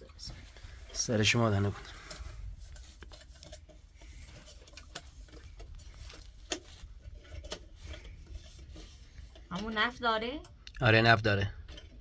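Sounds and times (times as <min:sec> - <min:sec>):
light rustle: 0:00.0 - 0:10.3.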